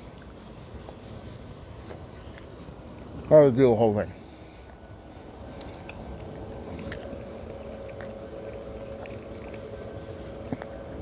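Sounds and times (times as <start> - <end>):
chewing with mouth closed: 0.0 - 11.0
low mechanical hum: 0.0 - 11.0.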